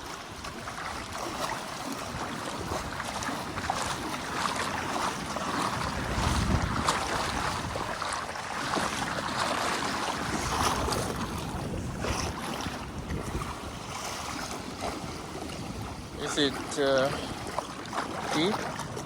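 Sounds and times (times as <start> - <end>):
water splashing around kayak: 0.0 - 19.0
wind on microphone: 0.0 - 19.0.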